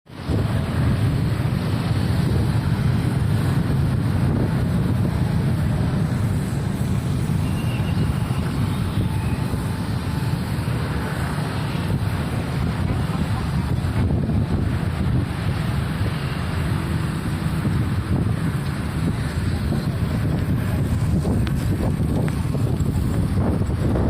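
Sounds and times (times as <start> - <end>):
low rumbling outdoor noise: 0.1 - 24.0.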